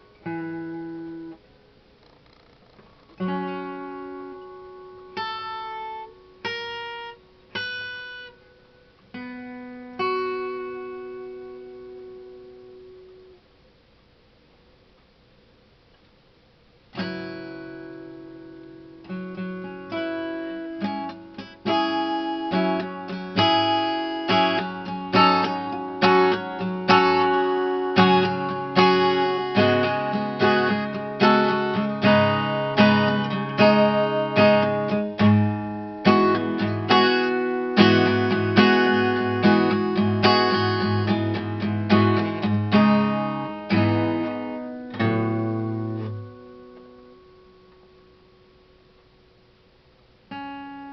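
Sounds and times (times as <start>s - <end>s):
acoustic guitar strumming: 0.0s - 13.4s, 16.9s - 49.0s, 50.3s - 50.9s.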